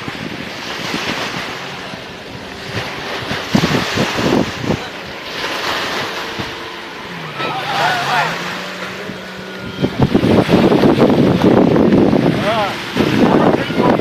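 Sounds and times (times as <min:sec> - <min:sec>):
boat engine droning: 0:00.0 - 0:14.0
wind buffeting microphone: 0:00.0 - 0:14.0.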